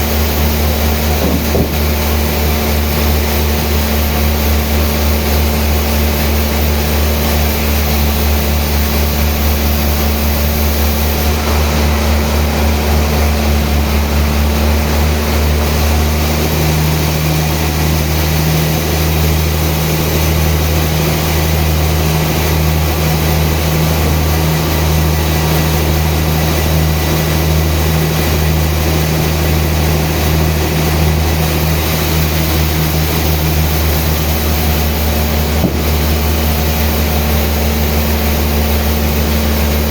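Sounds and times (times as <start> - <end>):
sawmill machinery engine droning: 0.0 - 39.9.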